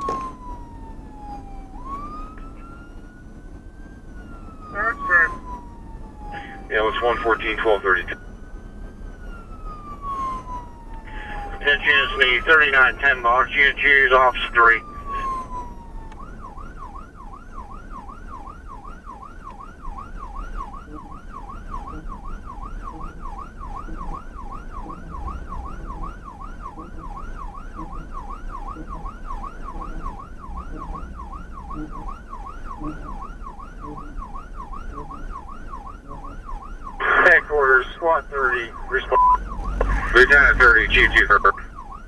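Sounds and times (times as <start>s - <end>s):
low road rumble: 0.0s - 42.0s
siren wailing in yelp mode: 0.0s - 42.0s.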